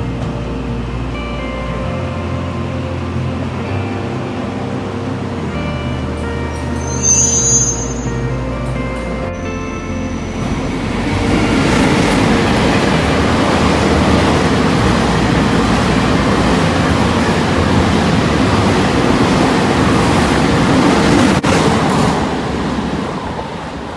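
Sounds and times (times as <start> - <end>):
train passing at high speed: 2.2 - 23.9.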